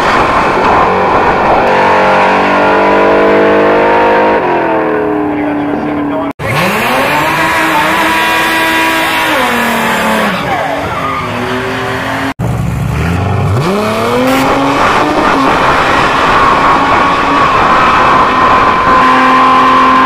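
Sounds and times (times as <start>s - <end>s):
drag car engines revving: 0.0s - 20.0s.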